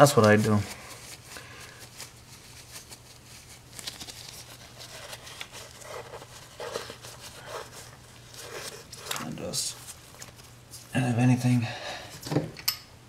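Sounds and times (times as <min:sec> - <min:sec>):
paper towel rustling and crinkling: 0:00.0 - 0:11.2.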